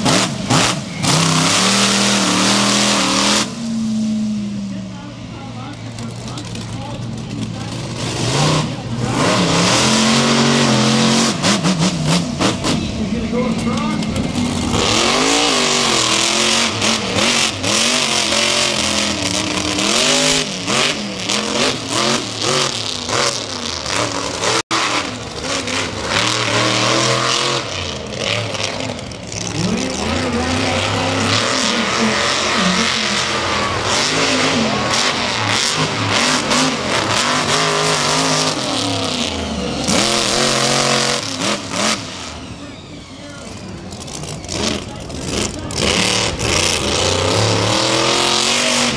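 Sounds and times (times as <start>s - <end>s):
monster truck engines revving: 0.0s - 48.9s.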